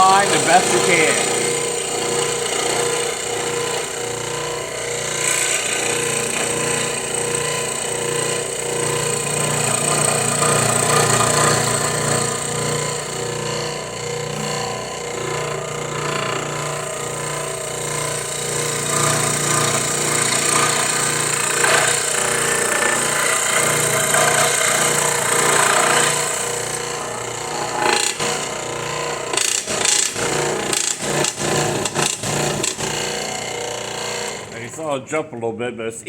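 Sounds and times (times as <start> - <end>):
scroll saw cutting wood: 0.0 - 34.9.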